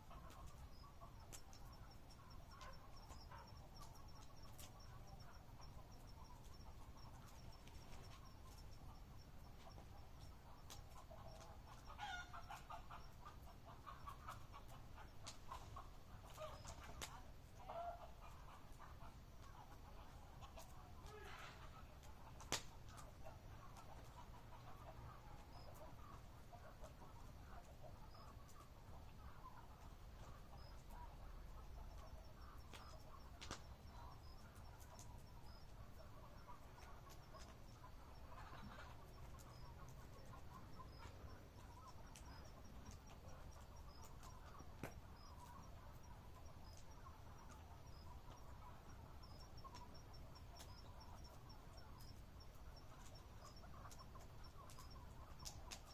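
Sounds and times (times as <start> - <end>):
campfire crackling: 0.0 - 17.6, 20.9 - 38.3, 39.0 - 55.9
cricket chirping: 0.0 - 19.2, 28.0 - 55.9.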